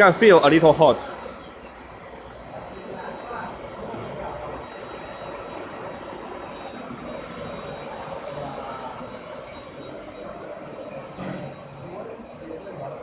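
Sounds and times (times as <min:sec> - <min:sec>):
faint high whine: 0:01.0 - 0:13.0.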